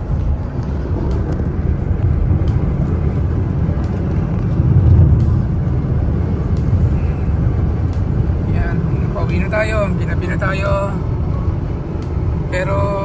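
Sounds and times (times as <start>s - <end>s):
road and engine rumble inside car: 0.0s - 13.0s.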